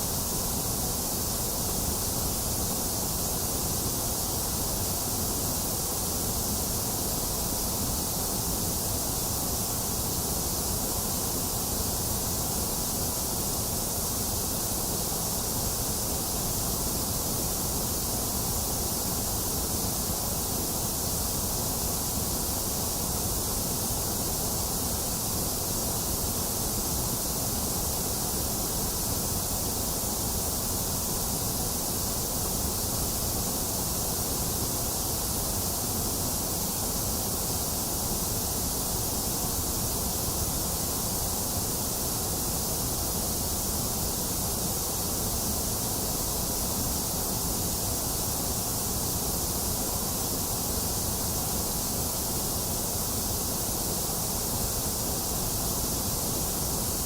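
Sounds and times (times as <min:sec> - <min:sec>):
steady white noise hiss: 0:00.0 - 0:57.0.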